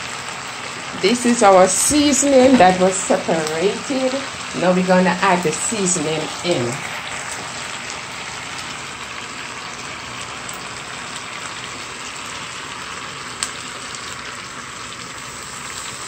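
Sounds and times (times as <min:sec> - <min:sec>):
meat sizzling in a pot: 0:00.0 - 0:16.0.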